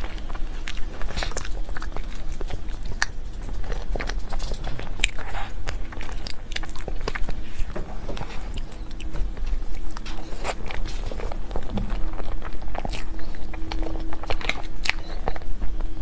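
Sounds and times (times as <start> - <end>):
person chewing cake: 0.0 - 16.0.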